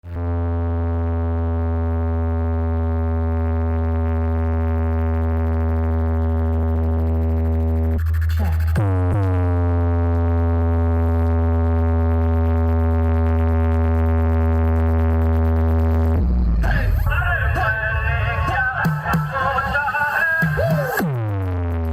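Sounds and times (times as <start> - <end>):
deep synthesized bass tone: 0.0 - 21.9.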